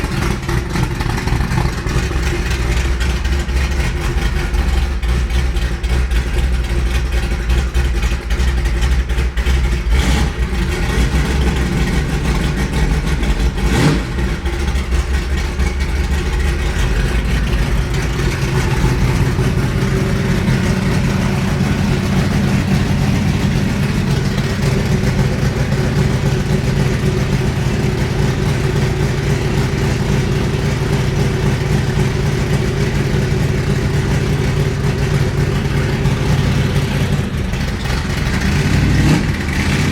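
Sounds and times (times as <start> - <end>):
car engine idling loud: 0.0 - 39.9.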